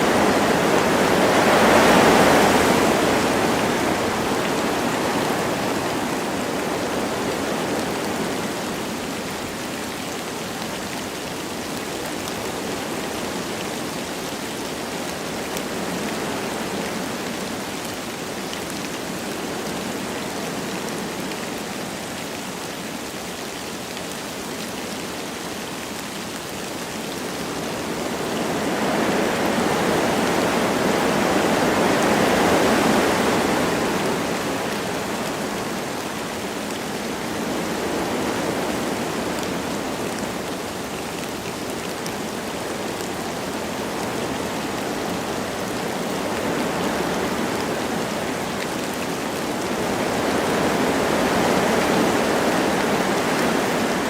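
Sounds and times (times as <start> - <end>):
light rain falling: 0.0 - 54.0
wind blowing through trees: 0.0 - 54.0.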